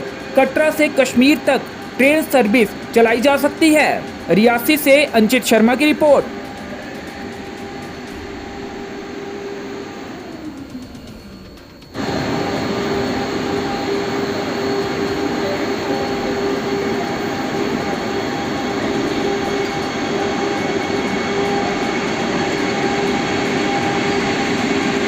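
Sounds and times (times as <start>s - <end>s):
electric train running: 0.0s - 25.0s.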